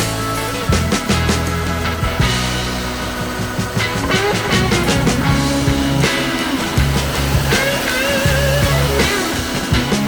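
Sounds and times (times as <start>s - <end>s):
rock music with bass and guitar: 0.0s - 10.0s.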